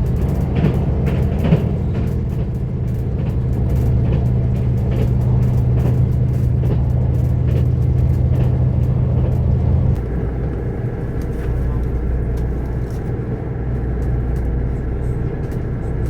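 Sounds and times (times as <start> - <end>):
railcar engine droning: 0.0 - 16.0.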